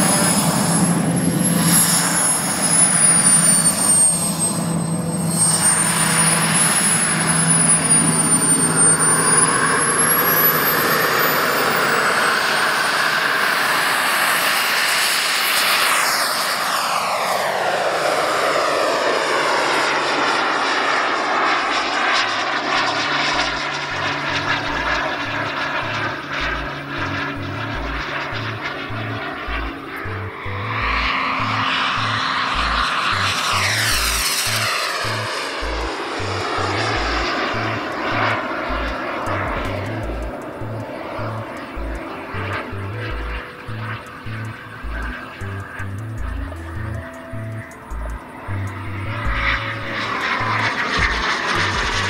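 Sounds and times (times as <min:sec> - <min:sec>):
model jet turbine whine: 0:00.0 - 0:52.0.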